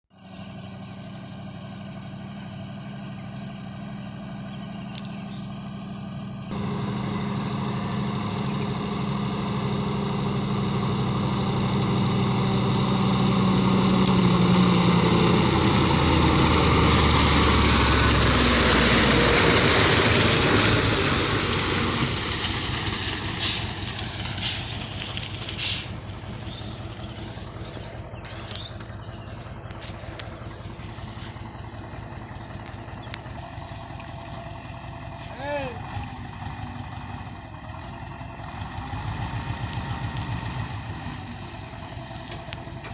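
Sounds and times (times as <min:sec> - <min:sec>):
excavator diesel engine running: 0:00.2 - 0:42.9.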